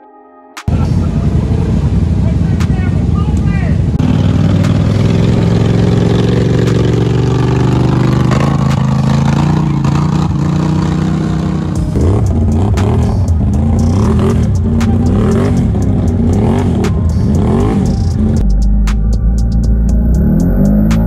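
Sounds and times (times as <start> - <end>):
quad engines running through mud: 0.7 - 18.4.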